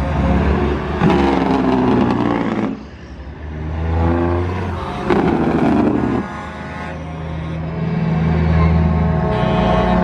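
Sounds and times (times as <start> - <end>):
diesel trucks passing: 0.0 - 10.0.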